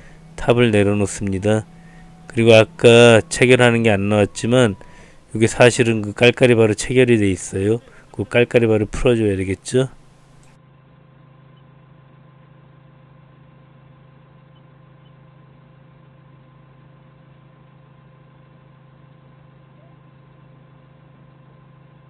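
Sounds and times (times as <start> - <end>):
forklift engine idling: 0.0 - 22.0.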